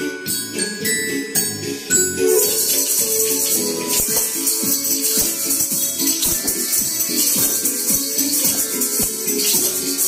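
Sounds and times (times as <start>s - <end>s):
shakers and tambourines playing: 0.0s - 10.0s
pitched melody: 1.1s - 10.0s.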